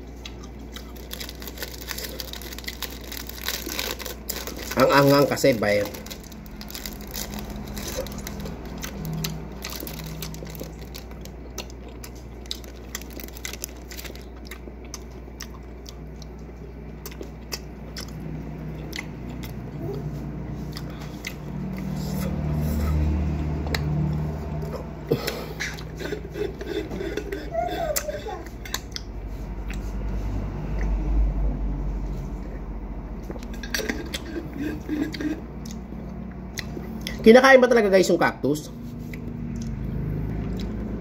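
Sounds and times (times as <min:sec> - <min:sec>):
chewing raw cactus: 0:00.0 - 0:31.1, 0:33.2 - 0:37.2, 0:38.7 - 0:41.0.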